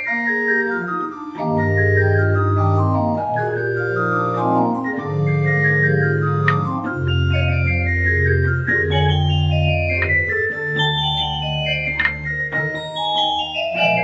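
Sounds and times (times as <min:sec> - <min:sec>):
church organ chords: 0:00.1 - 0:14.0.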